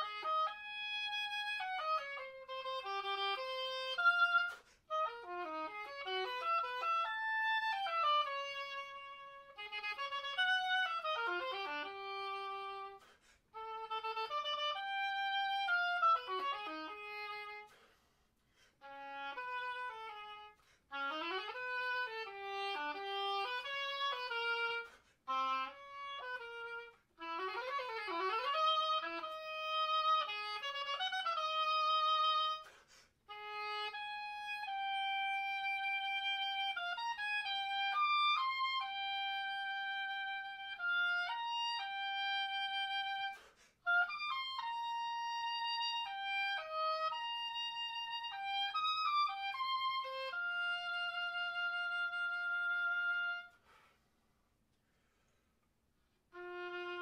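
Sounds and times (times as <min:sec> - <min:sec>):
solo oboe playing: 0:00.0 - 0:54.1, 0:56.0 - 0:57.0.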